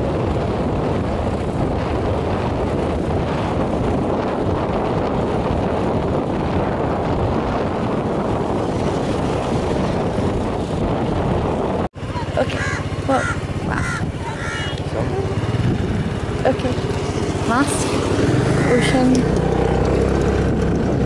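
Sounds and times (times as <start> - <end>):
motorbike engine: 0.0 - 21.0
road noise: 0.0 - 21.0
wind rushing over microphone: 0.0 - 21.0.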